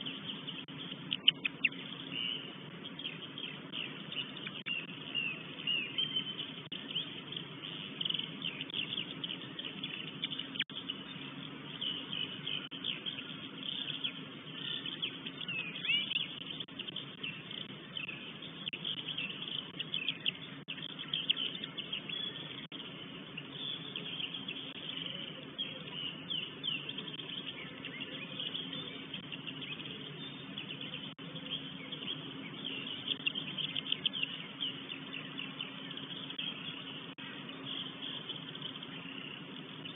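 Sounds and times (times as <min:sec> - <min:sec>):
songbirds chirping and singing: 0:00.0 - 0:39.9
steady low hum: 0:00.0 - 0:39.9.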